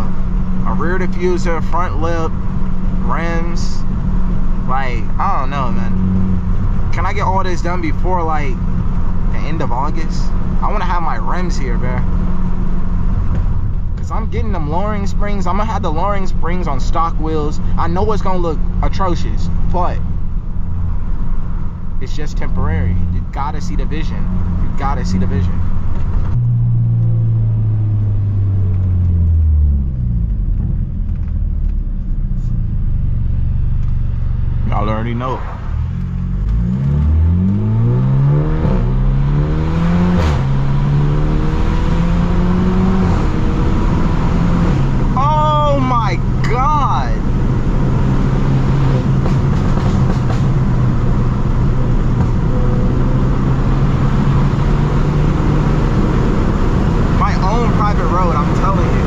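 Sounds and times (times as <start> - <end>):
car exhaust droning: 0.0 - 59.0.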